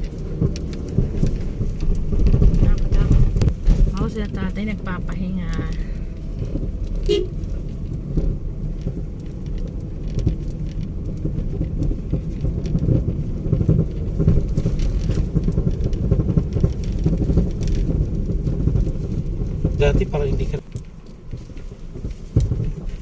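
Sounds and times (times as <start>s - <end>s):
knocks and rattles: 0.0s - 23.0s
vehicle engine and road rumble: 0.0s - 23.0s.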